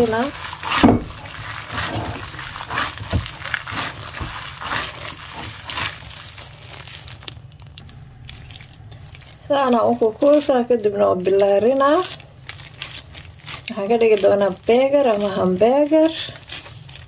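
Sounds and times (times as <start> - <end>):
plastic glove crinkle: 0.0 - 17.0
wet squelching of kneaded meat: 0.0 - 17.0.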